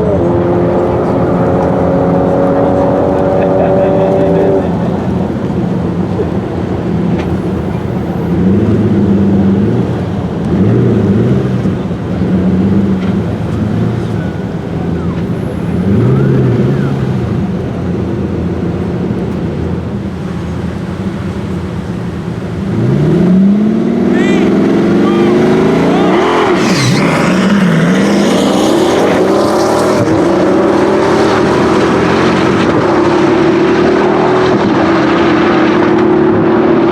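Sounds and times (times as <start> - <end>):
car engines running: 0.0 - 36.9
road and traffic noise: 0.0 - 36.9.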